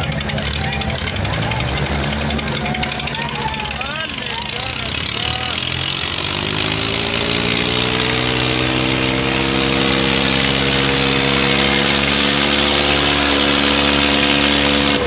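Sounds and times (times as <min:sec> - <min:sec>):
tractor engines straining: 0:00.0 - 0:15.0.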